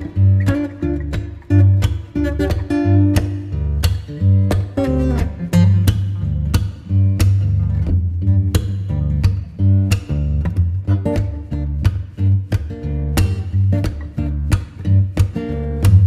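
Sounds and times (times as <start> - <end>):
plucked guitar music: 0.0 - 16.0
steady bass line: 0.0 - 16.0.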